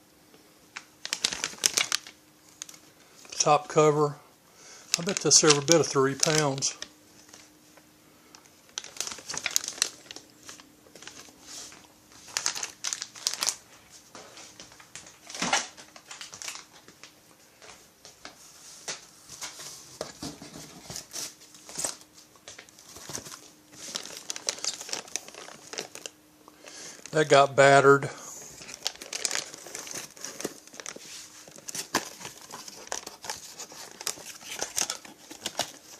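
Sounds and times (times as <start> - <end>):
packaging crinkling and rustling: 0.8 - 3.9, 4.8 - 35.9.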